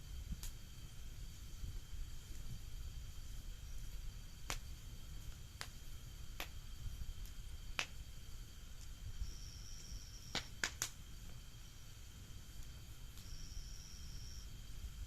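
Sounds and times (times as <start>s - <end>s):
bonfire wood crackling: 0.0s - 15.0s
low steady rumble: 0.0s - 15.0s.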